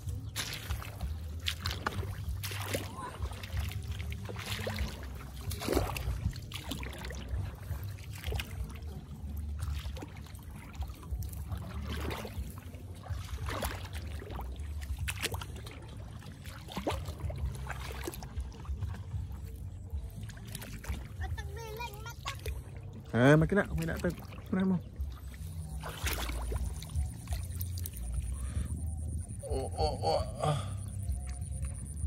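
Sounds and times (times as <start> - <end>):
low steady rumble: 0.0 - 32.0
sloshing in muddy water: 0.0 - 32.0.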